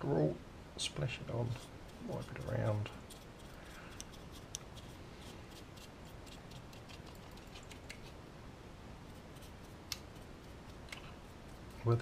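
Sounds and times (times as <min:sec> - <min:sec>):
paintbrush bristles scratching: 0:01.4 - 0:08.2, 0:09.1 - 0:12.0.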